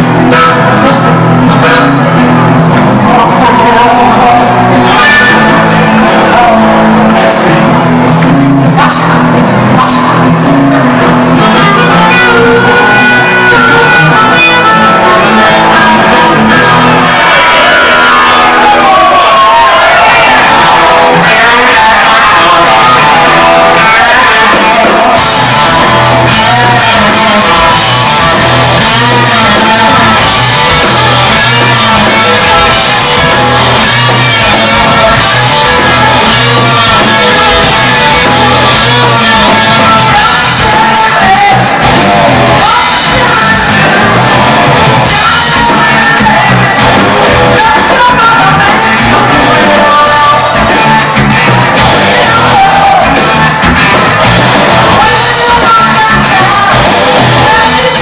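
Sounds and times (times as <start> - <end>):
rock band playing: 0.0 - 58.0
shouted sung lead vocals: 0.0 - 58.0.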